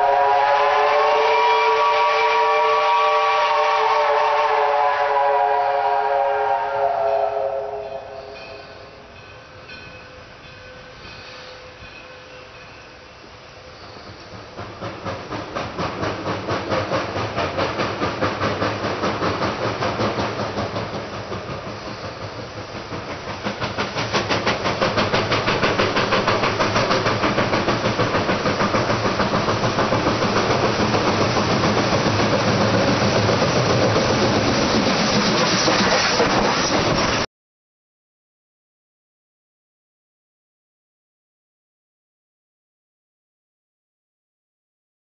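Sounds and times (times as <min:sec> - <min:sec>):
steam locomotive chuffing and hissing: 0:00.0 - 0:37.3.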